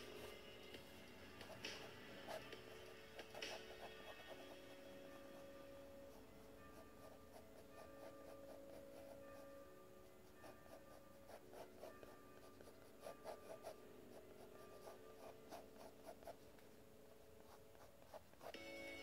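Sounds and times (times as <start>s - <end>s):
faint held musical tones: 0.0s - 19.0s
pencil scratching on paper: 1.4s - 9.5s, 10.2s - 16.5s, 17.2s - 18.6s.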